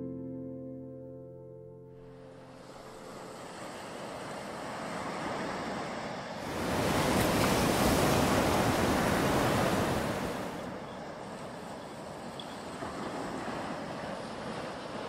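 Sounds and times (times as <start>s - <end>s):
sea surf washing onto beach: 2.2s - 15.0s.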